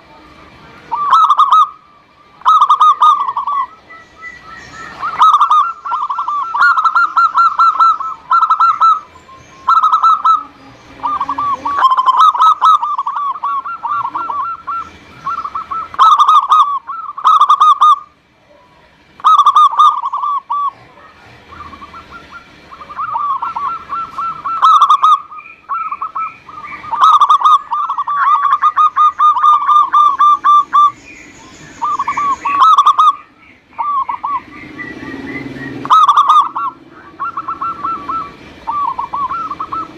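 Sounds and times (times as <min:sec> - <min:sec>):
dove cooing: 0:00.0 - 0:31.0, 0:31.6 - 0:39.9.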